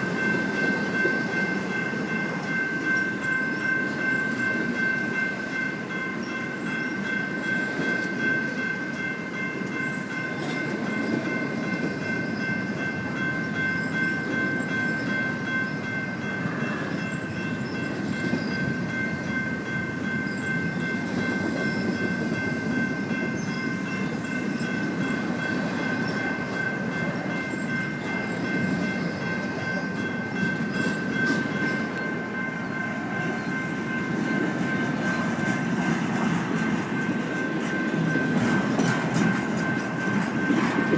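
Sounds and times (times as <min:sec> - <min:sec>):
train cars rumbling on rails: 0:00.0 - 0:40.9.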